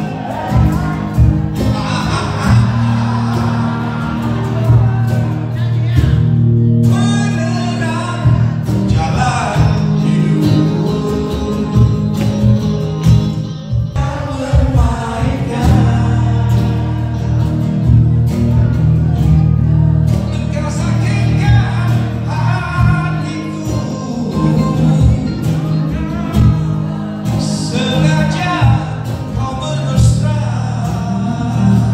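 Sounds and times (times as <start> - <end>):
bass line: 0.0 - 31.9
guitar: 0.0 - 31.9
person singing: 0.0 - 31.9.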